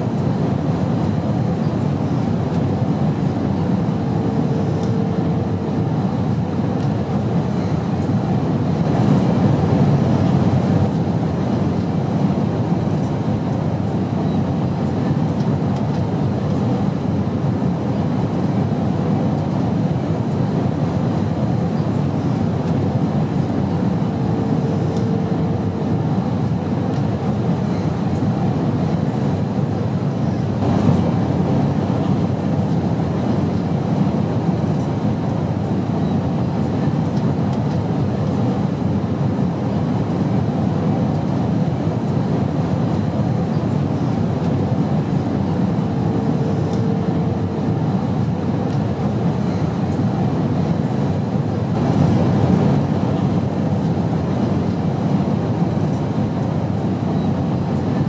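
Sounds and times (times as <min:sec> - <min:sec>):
airplane engine rumble: 0:00.0 - 0:58.0.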